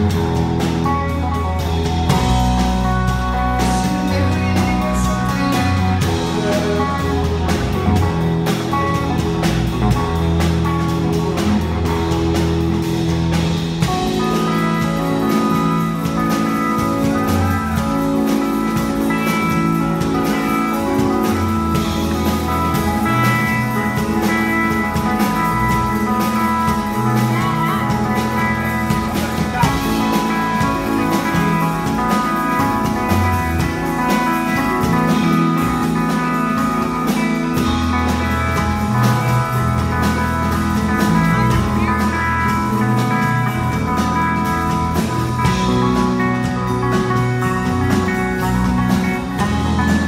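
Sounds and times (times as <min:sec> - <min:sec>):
electric guitar: 0:00.0 - 0:50.0
rock band playing live: 0:00.0 - 0:50.0.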